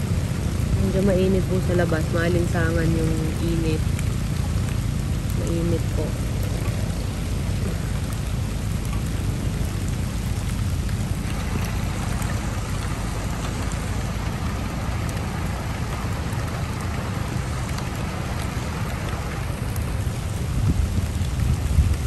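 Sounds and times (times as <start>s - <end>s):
low rumble: 0.0s - 22.0s
rain falling: 0.0s - 22.0s.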